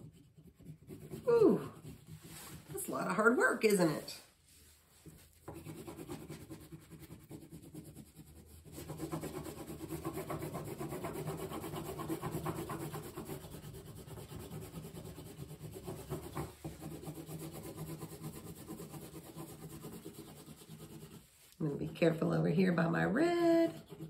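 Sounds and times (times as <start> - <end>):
crayon scribbling on paper: 0.0 - 4.0, 5.0 - 24.0.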